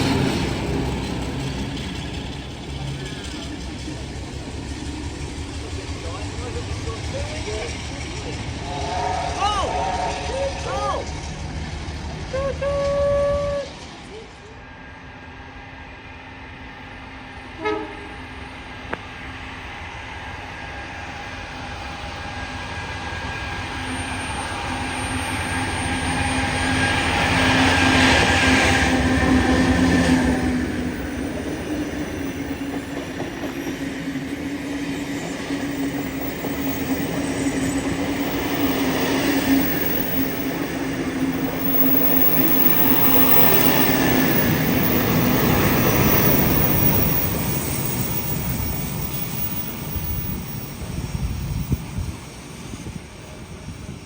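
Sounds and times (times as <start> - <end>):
train passing: 0.0 - 54.0.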